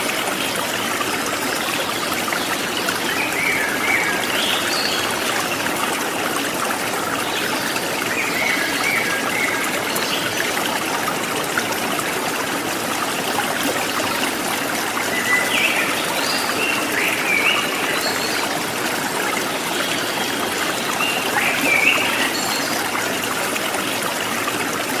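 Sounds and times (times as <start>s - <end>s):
water running and trickling: 0.0s - 25.0s.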